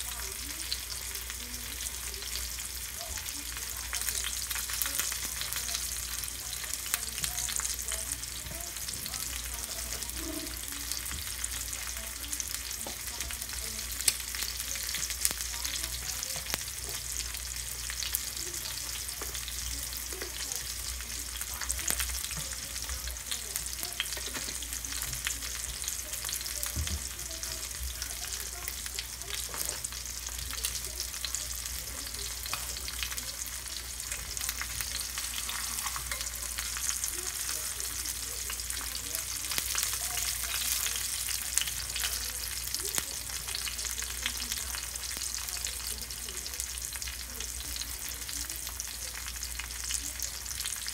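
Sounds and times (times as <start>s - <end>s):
steak sizzling in a skillet: 0.0s - 50.9s.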